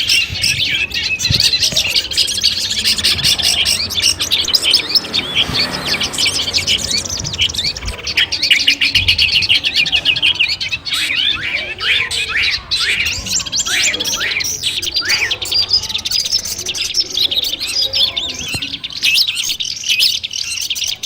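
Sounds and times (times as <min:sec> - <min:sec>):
shrike chirping: 0:00.0 - 0:21.0.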